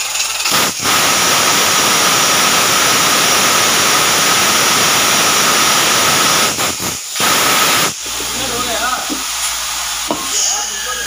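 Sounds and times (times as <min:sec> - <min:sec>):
drilling machine whirring: 0:00.0 - 0:11.0.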